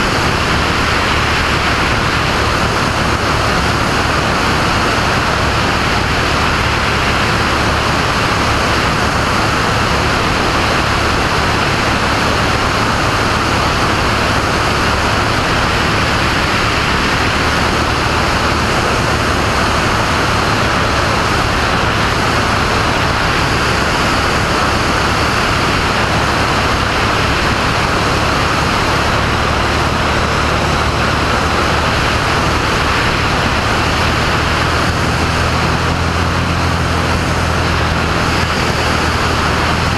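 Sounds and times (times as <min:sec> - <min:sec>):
constant rushing noise: 0:00.0 - 0:39.9
propeller airplane engine droning: 0:00.0 - 0:39.9.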